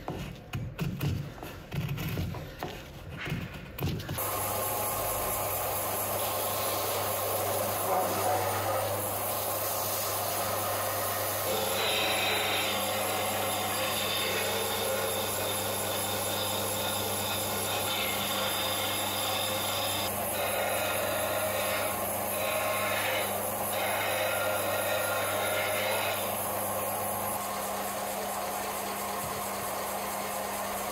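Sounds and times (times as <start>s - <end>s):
wood grinding on sanding disc: 4.1s - 30.9s
sander motor hum: 4.2s - 30.9s.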